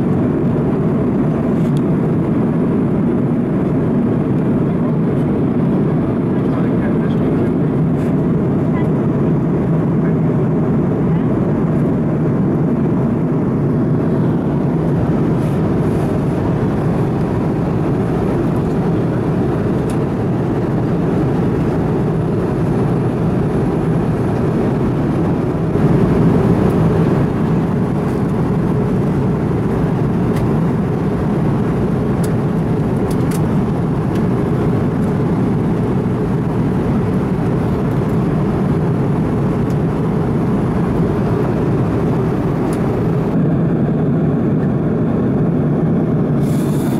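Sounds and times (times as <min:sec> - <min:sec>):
airplane cabin roar: 0:00.0 - 0:46.9.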